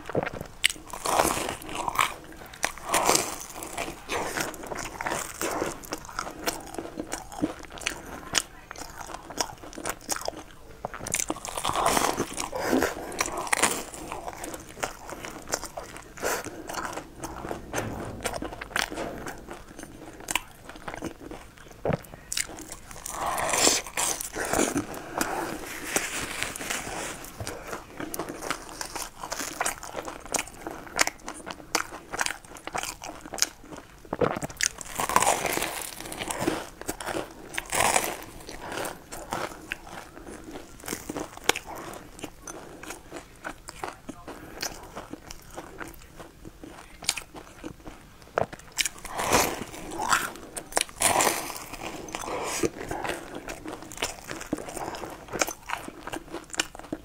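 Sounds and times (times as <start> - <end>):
person crunching and chewing bread: 0.0 - 57.0.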